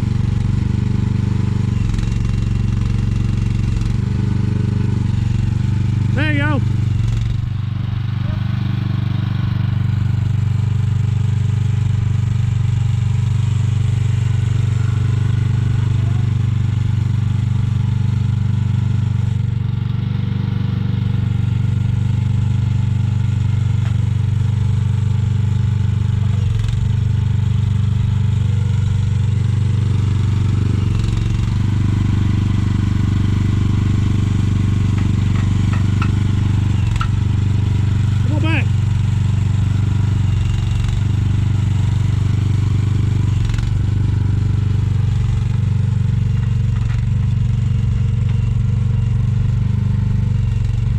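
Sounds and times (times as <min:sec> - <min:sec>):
excavator engine running: 0:00.0 - 0:20.1, 0:20.8 - 0:50.9.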